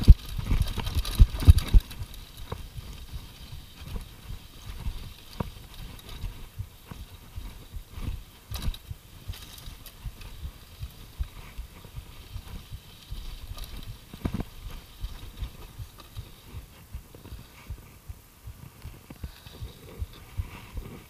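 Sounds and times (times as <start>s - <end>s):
bike knocking and rattling: 0.0s - 17.7s.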